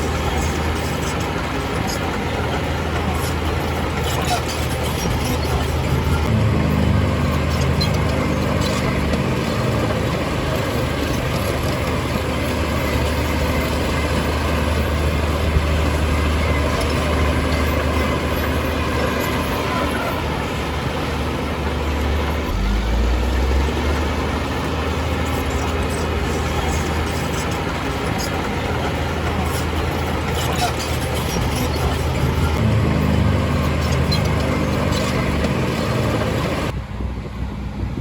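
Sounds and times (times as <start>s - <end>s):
heavy diesel engine under load: 0.0s - 38.0s.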